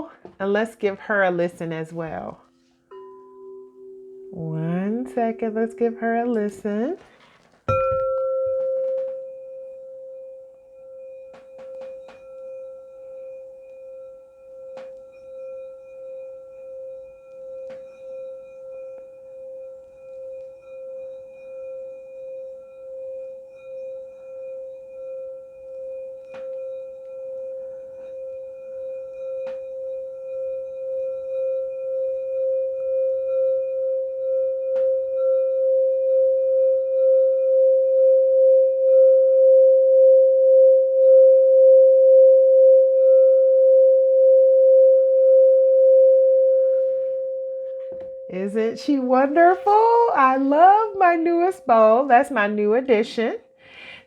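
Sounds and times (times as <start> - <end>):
singing bowl ringing: 2.4 - 52.2.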